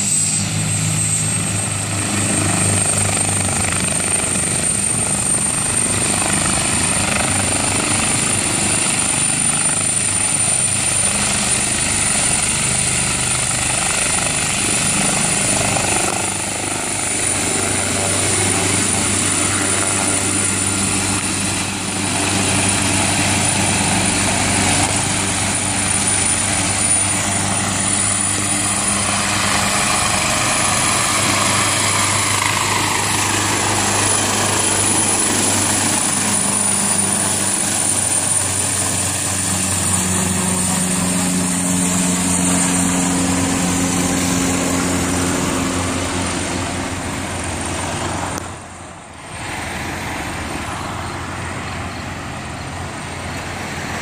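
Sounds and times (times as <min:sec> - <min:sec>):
helicopter rotor: 0:00.0 - 0:54.0
high turbine whine: 0:00.0 - 0:54.0.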